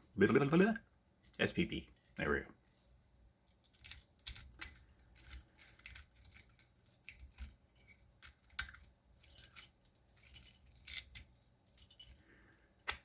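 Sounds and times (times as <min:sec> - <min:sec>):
keys jingling on a ring: 0:01.2 - 0:13.0.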